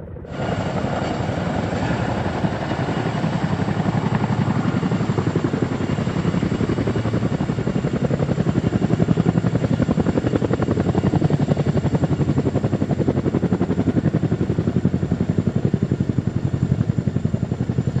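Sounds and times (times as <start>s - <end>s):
engine and turbine noise: 0.0s - 18.0s
helicopter rotor blades beating: 0.0s - 18.0s.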